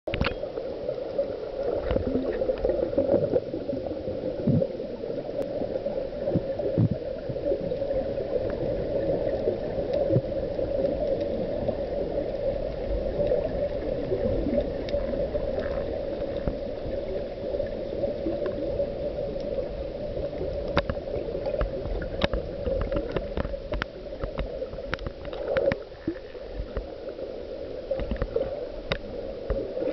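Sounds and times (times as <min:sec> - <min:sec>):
muffled underwater hum: 0:00.1 - 0:29.9.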